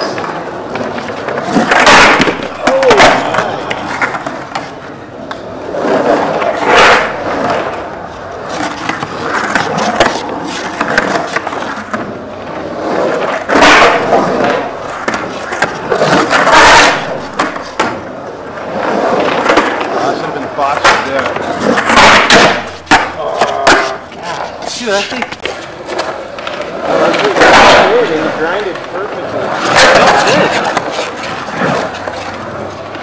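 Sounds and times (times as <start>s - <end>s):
skateboard wheels rolling on concrete: 0.0s - 33.0s.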